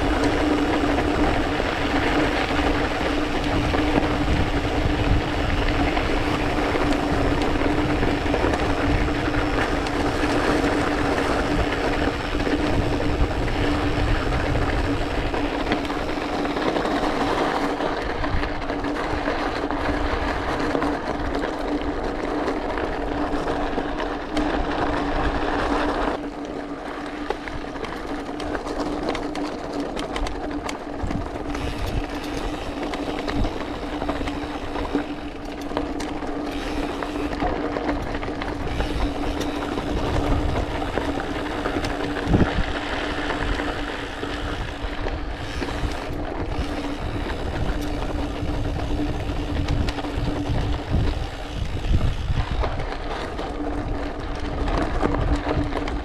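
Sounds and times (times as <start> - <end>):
bike tyres crunching on gravel: 0.0 - 56.0.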